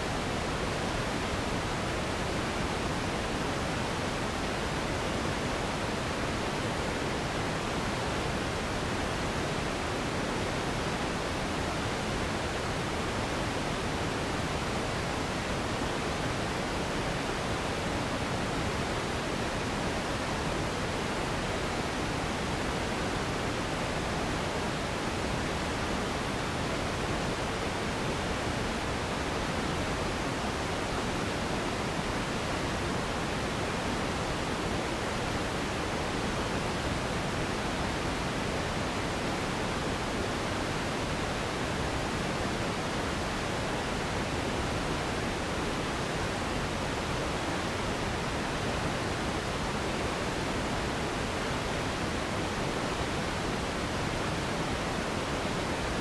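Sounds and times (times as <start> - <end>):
steady hiss-like noise: 0.0 - 56.0.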